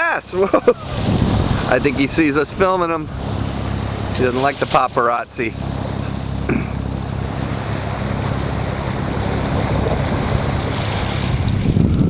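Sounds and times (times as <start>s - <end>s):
boat engine humming: 0.0s - 12.0s
water rushing past hull: 0.0s - 12.0s.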